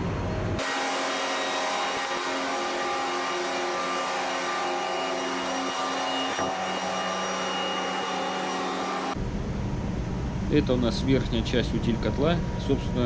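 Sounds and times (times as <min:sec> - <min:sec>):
engine room machinery drone: 0:00.0 - 0:13.0.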